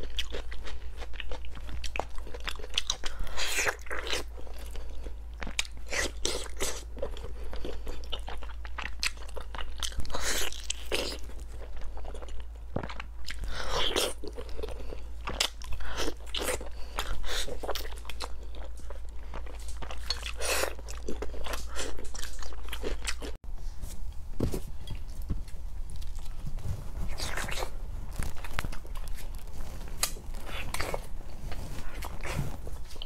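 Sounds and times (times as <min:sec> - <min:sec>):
person chewing meat: 0:00.0 - 0:23.4, 0:27.1 - 0:33.0.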